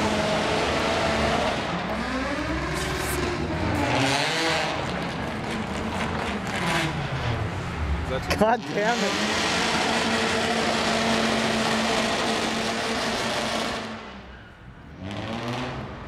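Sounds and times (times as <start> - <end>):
car engine revving: 0.0 - 14.2, 14.9 - 16.0.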